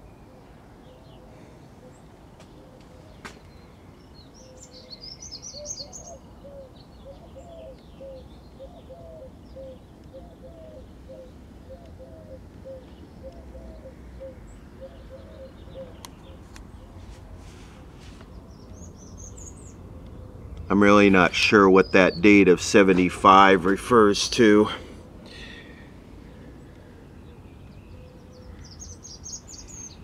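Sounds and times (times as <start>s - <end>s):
birds twittering: 0.0s - 30.0s
steady background noise: 0.0s - 30.0s.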